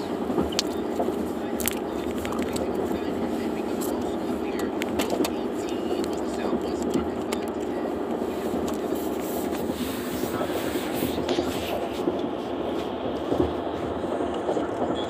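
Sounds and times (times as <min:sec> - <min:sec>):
car cabin road and engine rumble: 0:00.0 - 0:15.0.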